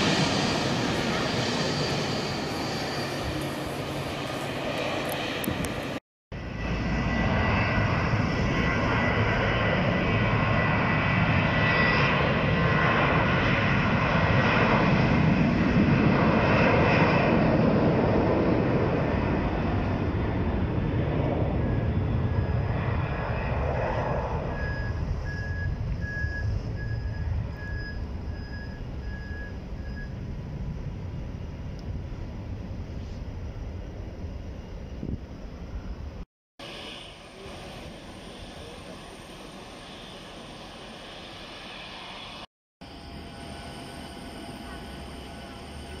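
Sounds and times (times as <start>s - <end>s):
jet engines running: 0.0s - 46.0s.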